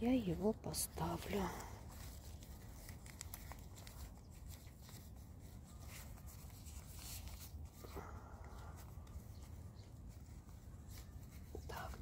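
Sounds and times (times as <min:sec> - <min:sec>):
faint rustling of hands: 0:00.0 - 0:12.0.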